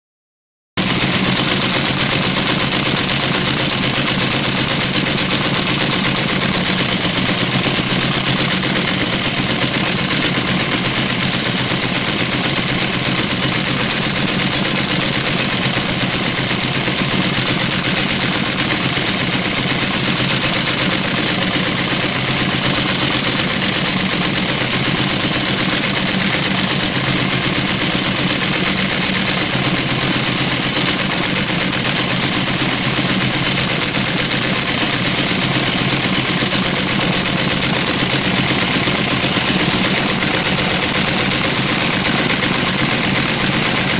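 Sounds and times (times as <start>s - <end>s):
embroidery machine needle clattering: 0.8s - 43.9s.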